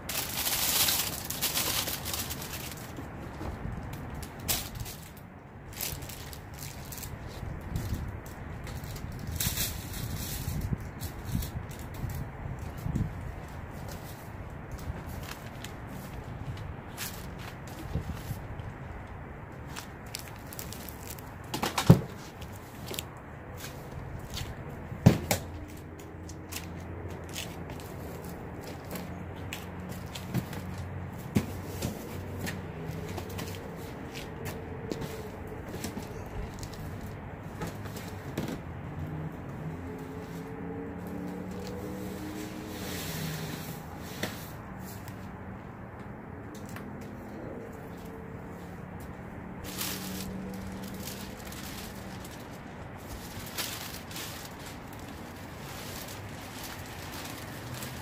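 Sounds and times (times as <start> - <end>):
rustling and handling noise: 0.0 - 58.0.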